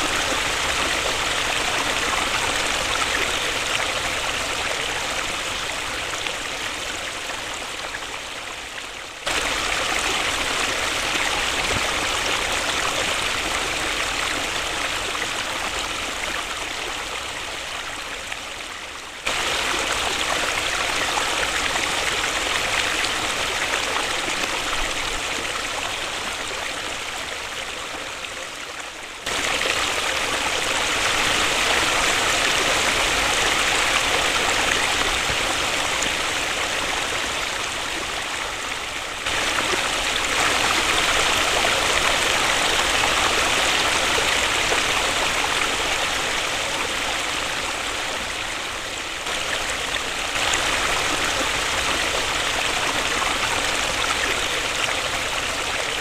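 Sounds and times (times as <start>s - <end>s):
waterfall rushing: 0.0s - 8.4s, 9.2s - 18.6s, 19.2s - 27.5s, 29.2s - 56.0s.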